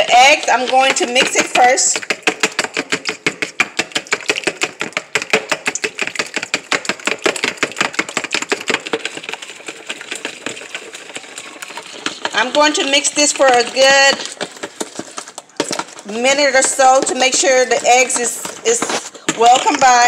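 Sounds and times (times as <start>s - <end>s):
whisk beating eggs in bowl: 0.0s - 20.0s.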